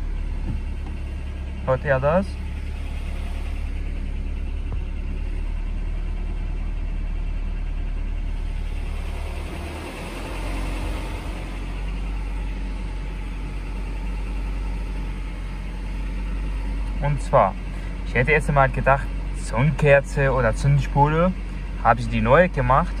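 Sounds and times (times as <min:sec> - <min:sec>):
engine running with clattering rattle: 0:00.0 - 0:23.0.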